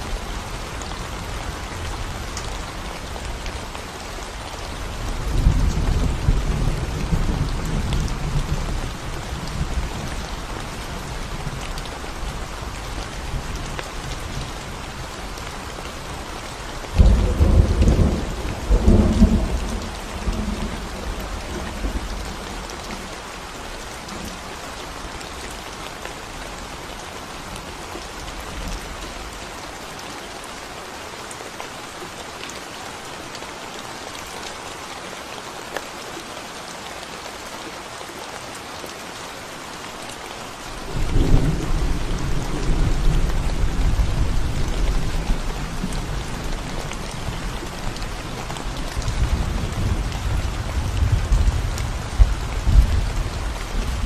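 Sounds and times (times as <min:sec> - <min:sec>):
rain on concrete: 0:00.0 - 0:54.0.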